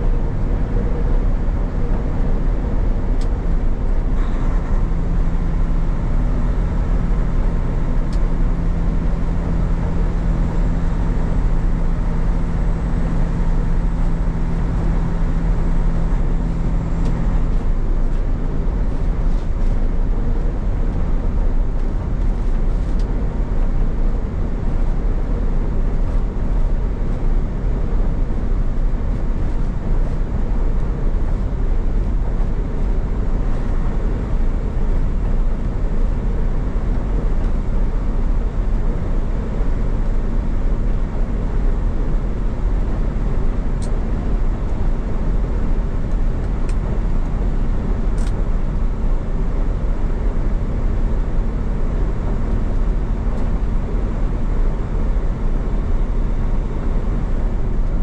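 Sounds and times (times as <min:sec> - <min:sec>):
low steady hum: 0:00.0 - 0:58.0
truck engine and road noise: 0:00.0 - 0:58.0.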